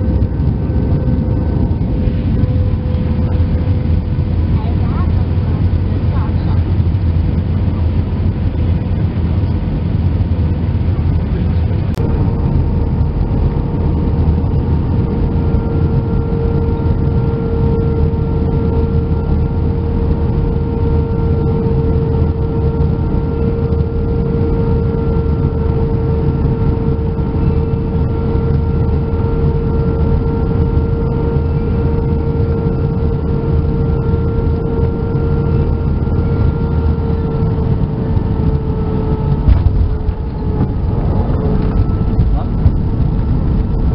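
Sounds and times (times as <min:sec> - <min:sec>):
airplane cabin engine rumble: 0:00.0 - 0:43.9
whining engine tone: 0:00.0 - 0:43.9.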